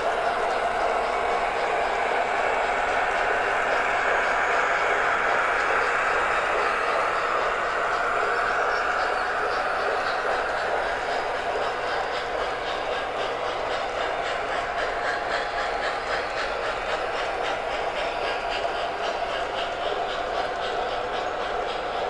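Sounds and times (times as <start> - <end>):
model train rumbling: 0.0 - 22.0.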